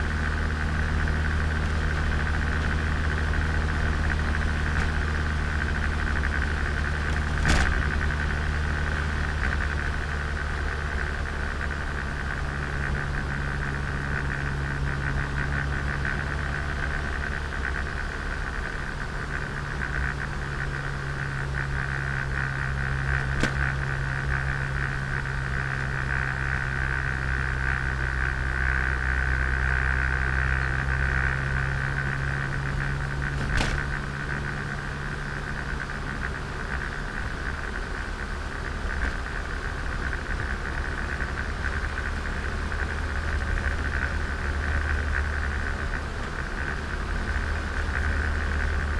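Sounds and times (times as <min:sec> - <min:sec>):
car engine running: 0:00.0 - 0:48.9
road noise: 0:00.0 - 0:48.9.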